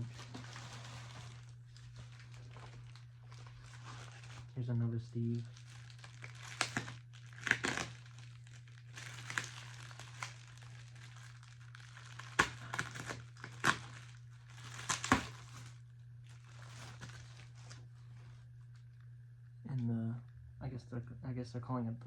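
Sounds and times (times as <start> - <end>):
packing material crinkling: 0.0 - 19.1
steady low hum: 0.0 - 22.0.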